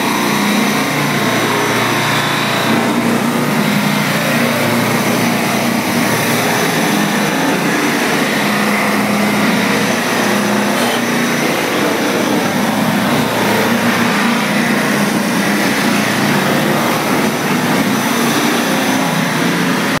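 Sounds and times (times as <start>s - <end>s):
machine motor hum: 0.0s - 20.0s.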